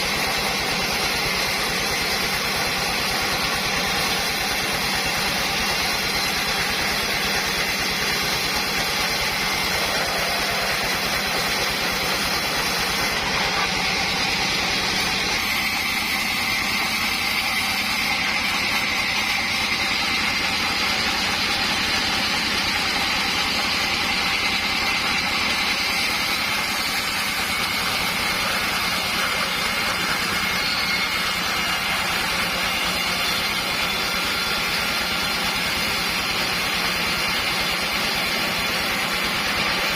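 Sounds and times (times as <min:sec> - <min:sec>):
sawmill running: 0:00.0 - 0:39.9.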